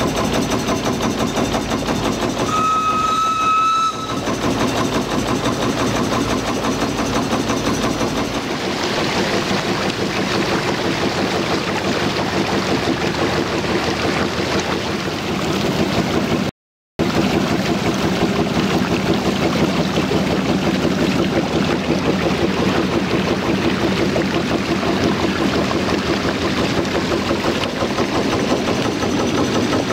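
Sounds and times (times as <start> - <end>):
motor boat engine running: 0.0 - 29.9
water churning in wake: 0.0 - 29.9.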